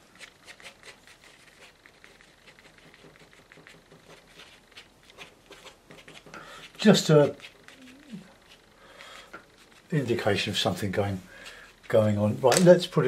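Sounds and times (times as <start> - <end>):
tool scraping wet paint on paper: 0.0 - 12.9.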